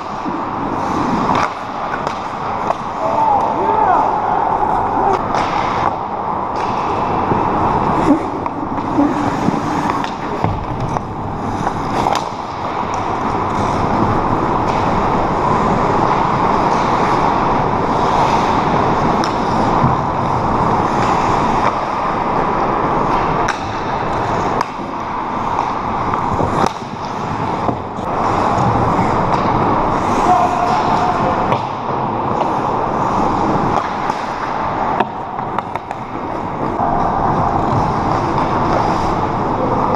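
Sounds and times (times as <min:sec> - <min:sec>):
hockey sticks and puck clacking: 0:00.0 - 0:39.9.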